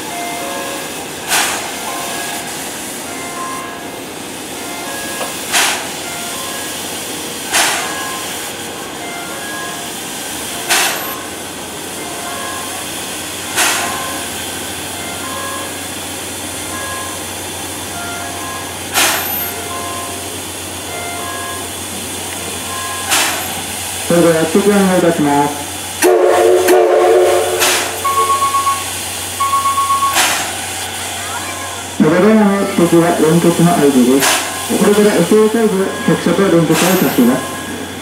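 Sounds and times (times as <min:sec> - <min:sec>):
steam locomotive hissing: 0:00.0 - 0:38.0
sharp bursts of steam hiss: 0:00.6 - 0:03.1, 0:05.0 - 0:38.0.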